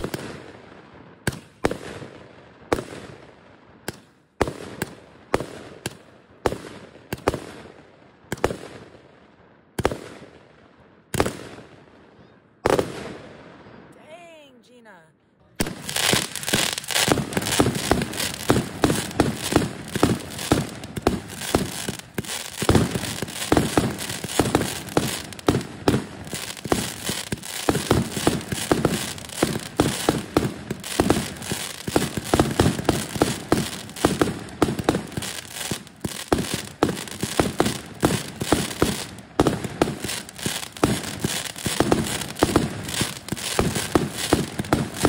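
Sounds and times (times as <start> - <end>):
crackling firework star bursts: 0.0 - 7.7, 15.6 - 45.0.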